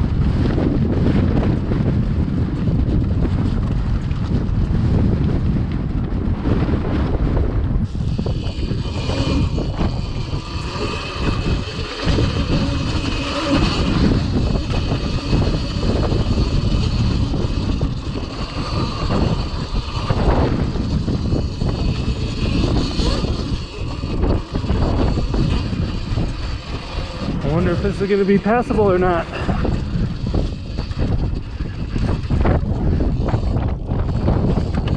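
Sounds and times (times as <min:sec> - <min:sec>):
electric motor whine: 0:00.0 - 0:34.9
wind buffeting microphone: 0:00.0 - 0:34.9.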